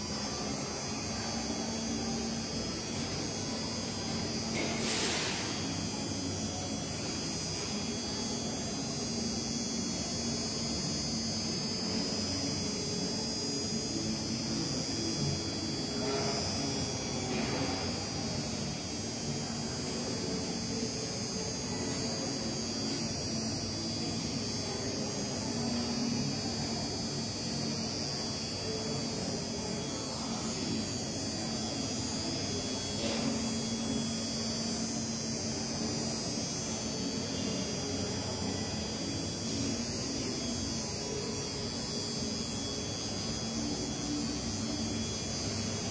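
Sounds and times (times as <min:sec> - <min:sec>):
electrical buzz and hum: 0:00.0 - 0:45.9
murmur of distant voices: 0:00.0 - 0:45.9.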